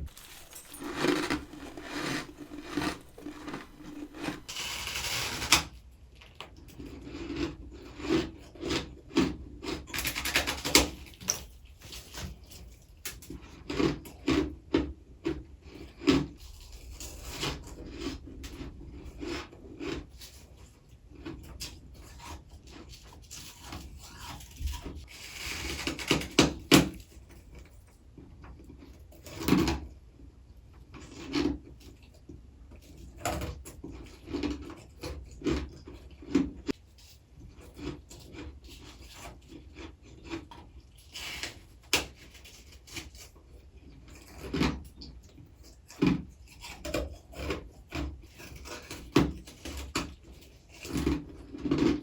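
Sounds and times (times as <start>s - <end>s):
biting and chewing crunchy frost: 0.0s - 5.5s, 6.2s - 27.8s, 32.8s - 52.0s.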